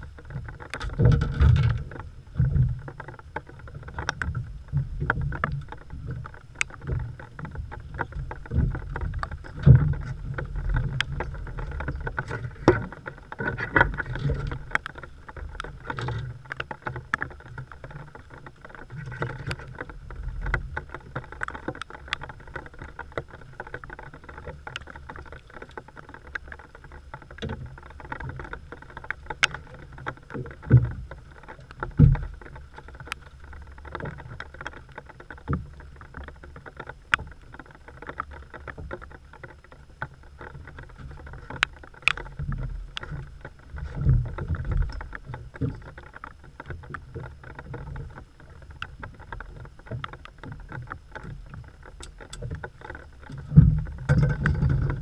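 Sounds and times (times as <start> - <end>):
heavy rain ticking on boat: 0.0 - 55.0.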